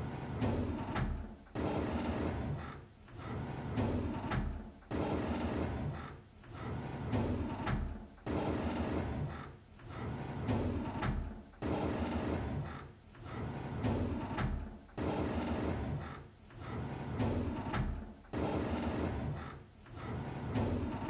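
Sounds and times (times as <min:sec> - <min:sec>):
wooden drawer sliding scrape: 0:00.0 - 0:21.0.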